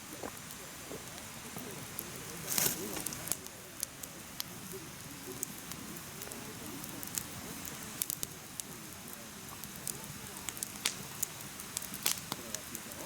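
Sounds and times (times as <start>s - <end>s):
fire hissing: 0.0s - 13.0s
firewood crackling and popping: 0.0s - 13.0s.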